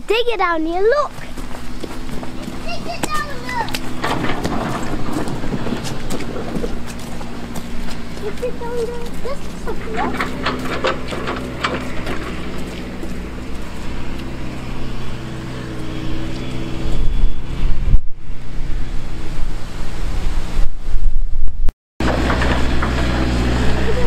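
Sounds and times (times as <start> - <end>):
excavator diesel engine humming: 0.0 - 20.2, 22.0 - 24.0
wind buffeting microphone: 0.0 - 21.7.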